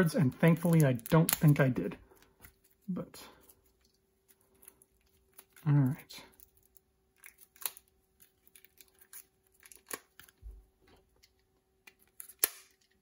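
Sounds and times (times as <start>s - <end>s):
plastic shrink wrap crinkling: 0.2s - 13.0s.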